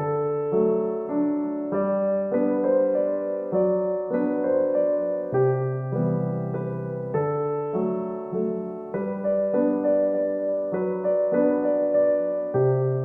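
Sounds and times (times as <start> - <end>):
piano keyboard melody: 0.0 - 13.0.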